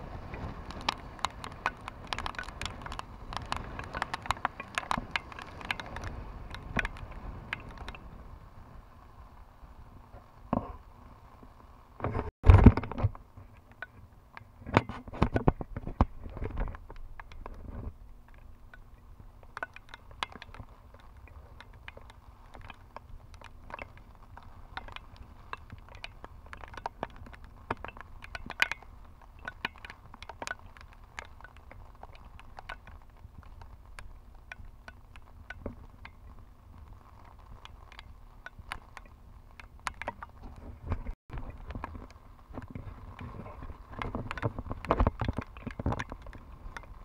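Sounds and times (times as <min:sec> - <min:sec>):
raindrops ticking on camera: 0:00.0 - 0:47.0
wind rumbling on microphone: 0:00.0 - 0:47.0.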